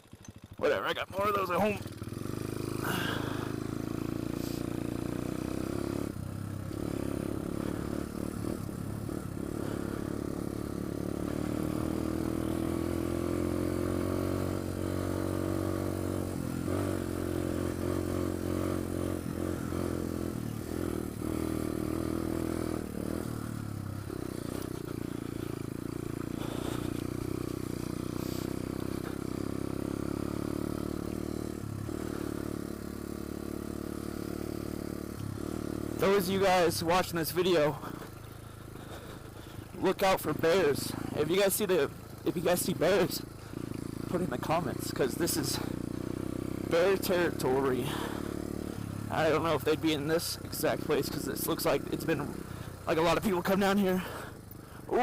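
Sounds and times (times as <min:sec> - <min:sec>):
small motorcycle engine running: 0:00.0 - 0:55.0.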